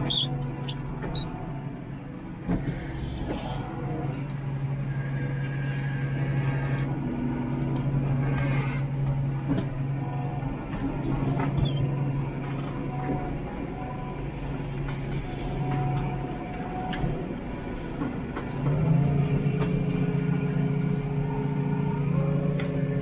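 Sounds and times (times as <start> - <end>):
tractor engine running under load: 0.0 - 8.2, 8.9 - 23.0.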